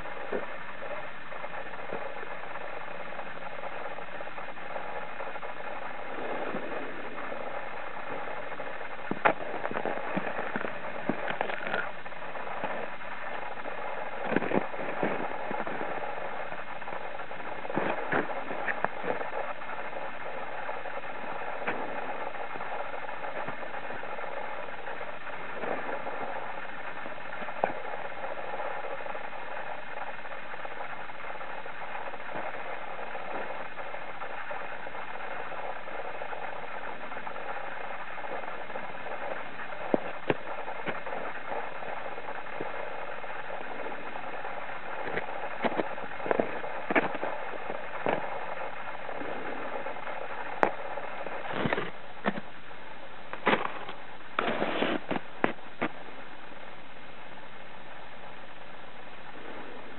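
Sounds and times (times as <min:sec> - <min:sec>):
wind hiss on microphone: 0:00.0 - 0:59.9.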